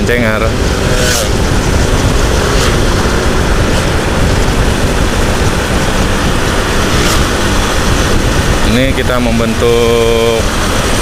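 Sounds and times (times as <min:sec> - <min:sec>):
motorcycle engines droning: 0:00.0 - 0:11.0
wind rushing over microphone: 0:00.0 - 0:11.0.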